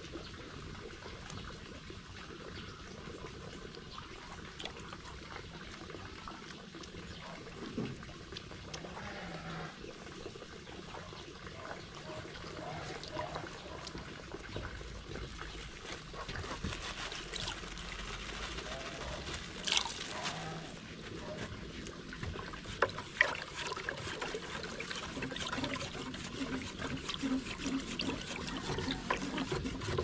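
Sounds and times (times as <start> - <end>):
water splashing in a plastic bucket: 0.0 - 30.0.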